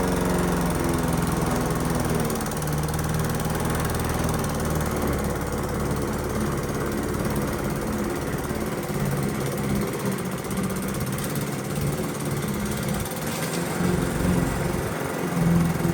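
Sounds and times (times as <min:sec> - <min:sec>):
lawn mower engine running: 0:00.0 - 0:15.9.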